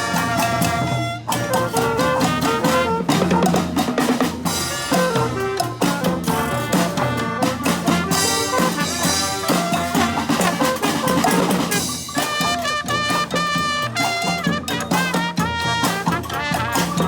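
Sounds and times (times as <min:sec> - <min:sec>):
brass band horns playing: 0:00.0 - 0:17.0
drum beat: 0:00.0 - 0:17.0.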